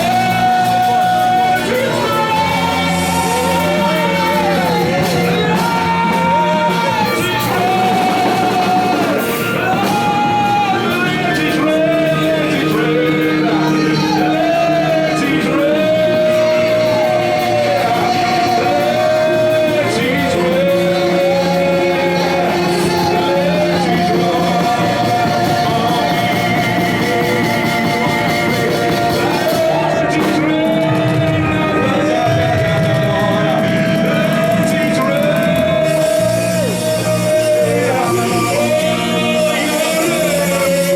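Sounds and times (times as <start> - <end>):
church music accompaniment: 0.0 - 40.9
person singing slow melody: 0.0 - 40.9.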